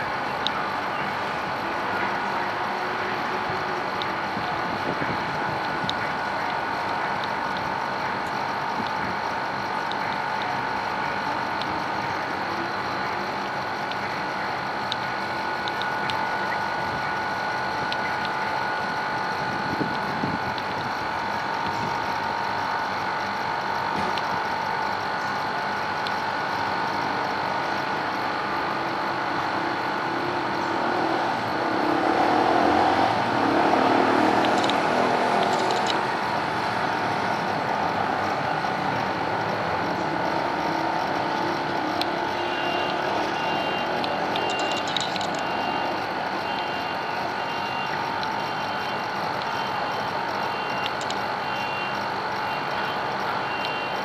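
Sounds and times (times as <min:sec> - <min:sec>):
continuous hum: 0:00.0 - 0:54.0
machinery: 0:00.0 - 0:54.0
traffic: 0:00.0 - 0:54.0.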